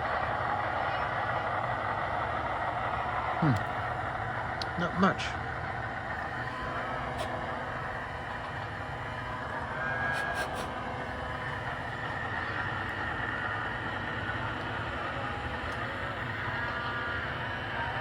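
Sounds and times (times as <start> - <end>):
diesel engine sound from speaker: 0.0 - 18.0.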